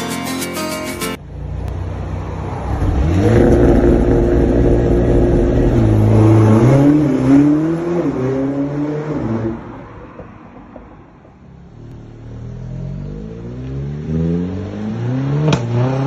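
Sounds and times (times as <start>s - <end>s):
car engine accelerating hard: 1.4s - 10.2s, 11.7s - 16.0s.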